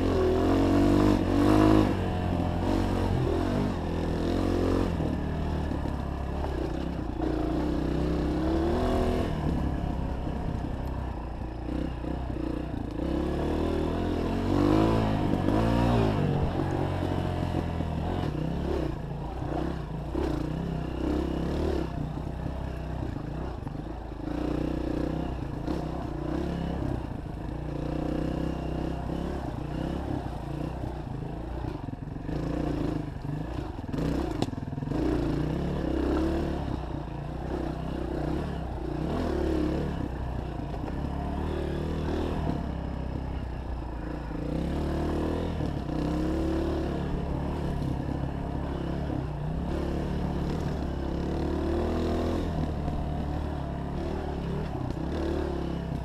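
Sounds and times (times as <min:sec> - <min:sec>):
dirt bike engine revving: 0:00.0 - 0:10.0, 0:11.3 - 0:23.6, 0:27.7 - 0:42.8, 0:43.4 - 0:56.0.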